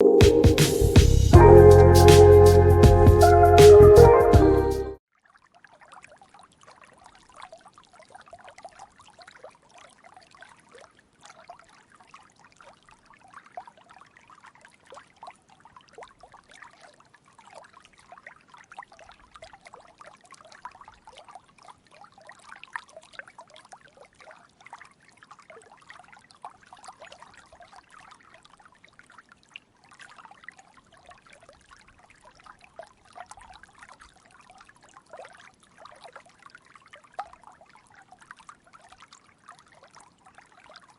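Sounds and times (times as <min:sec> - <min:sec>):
stream trickling and babbling: 0:05.0 - 0:40.9.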